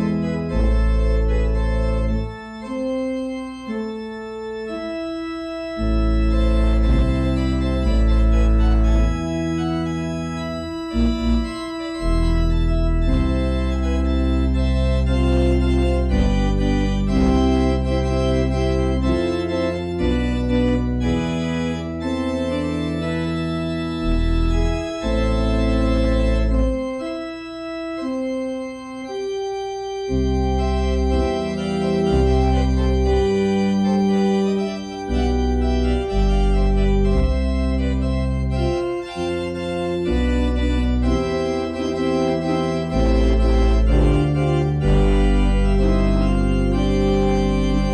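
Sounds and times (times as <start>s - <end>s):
church organ chords: 0.0s - 47.9s.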